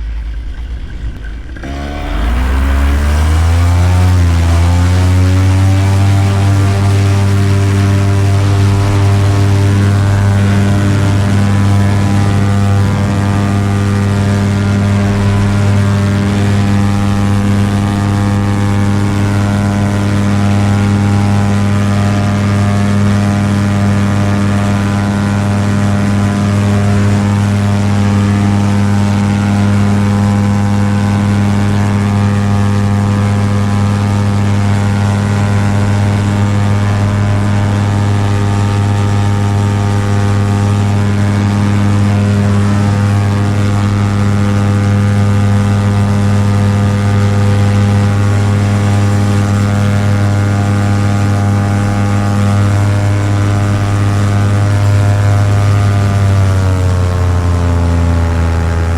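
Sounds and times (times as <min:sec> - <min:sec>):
paramotor engine drone: 0:00.0 - 0:58.9.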